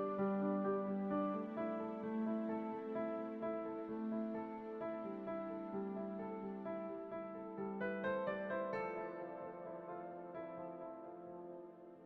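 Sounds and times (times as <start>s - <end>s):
slow music of held notes: 0.0s - 12.0s.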